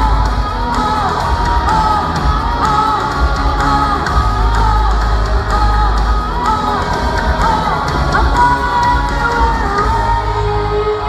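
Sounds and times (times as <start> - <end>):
person singing: 0.0 - 11.0
rock band playing live: 0.0 - 11.0.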